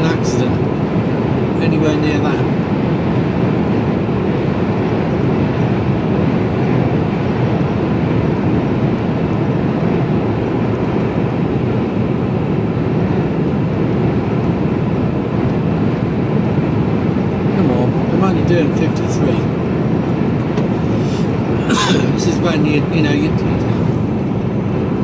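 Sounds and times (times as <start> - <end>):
lorry engine and road drone: 0.0 - 12.8, 14.2 - 25.0.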